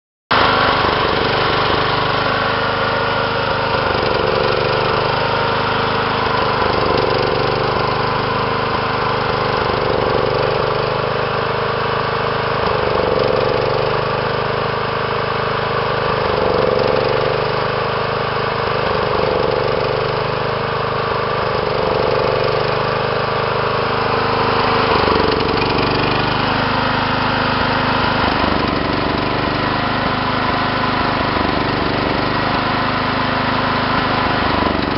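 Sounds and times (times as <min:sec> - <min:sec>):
lawn tractor engine idling rough: 0:00.3 - 0:34.9.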